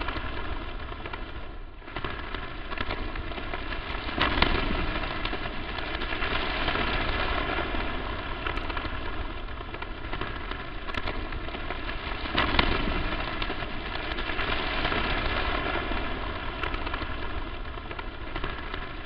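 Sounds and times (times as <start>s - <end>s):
crackling static: 0.0s - 19.0s.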